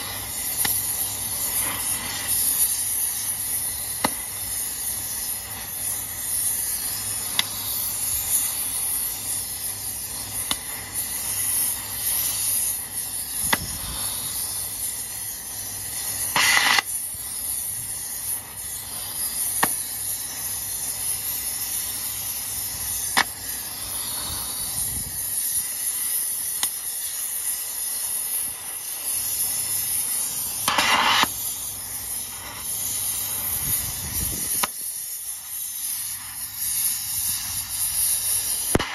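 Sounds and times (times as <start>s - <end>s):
torch flame hissing: 0.0s - 38.9s.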